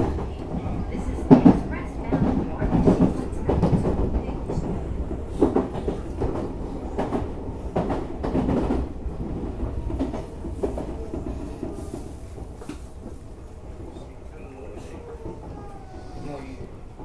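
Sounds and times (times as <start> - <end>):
train interior rumble: 0.0 - 17.0.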